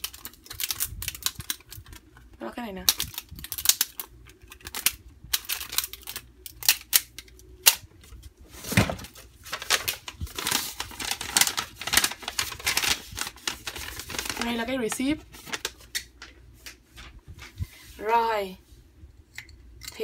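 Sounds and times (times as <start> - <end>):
paper and plastic rustling: 0.0 - 7.3, 8.0 - 18.1
plastic wrapping crinkling: 0.0 - 17.6.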